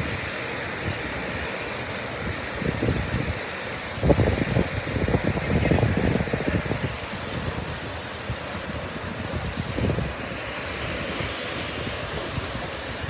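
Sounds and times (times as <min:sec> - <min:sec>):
water gushing from fire hydrant: 0:00.0 - 0:13.0
wind buffeting microphone: 0:00.0 - 0:13.0.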